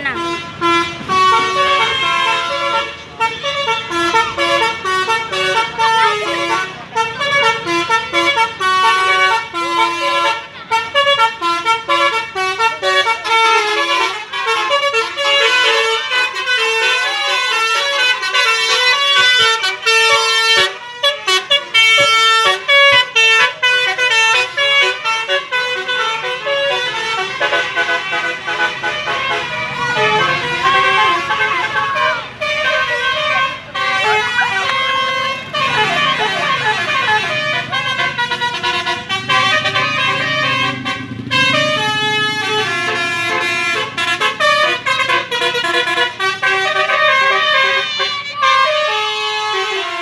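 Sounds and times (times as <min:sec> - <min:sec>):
musical vehicle horns: 0:00.0 - 0:50.0.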